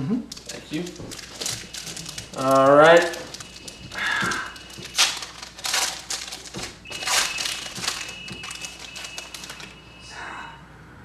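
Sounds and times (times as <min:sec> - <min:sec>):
wrapper tearing and crinkling: 0:00.3 - 0:09.8.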